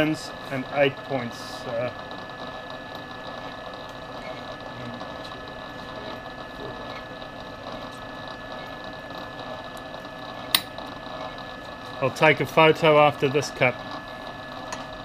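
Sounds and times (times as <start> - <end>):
milling machine hum and whine: 0.0 - 15.0.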